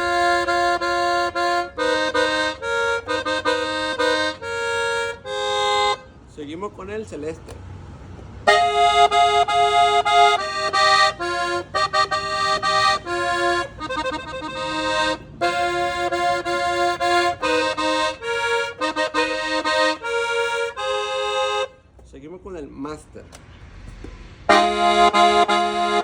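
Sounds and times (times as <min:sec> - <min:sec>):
accordion melody: 0:00.0 - 0:06.2, 0:08.1 - 0:21.9, 0:24.5 - 0:26.0.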